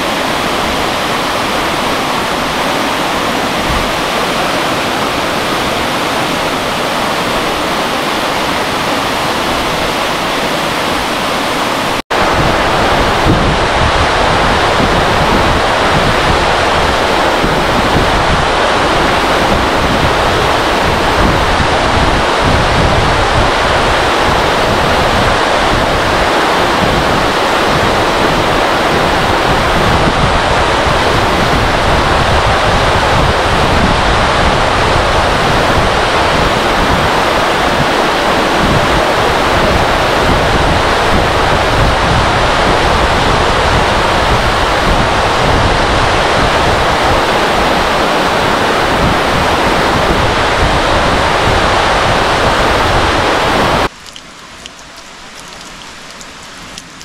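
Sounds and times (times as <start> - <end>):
wind buffeting microphone: 0.0 - 54.0
waterfall: 0.0 - 57.0.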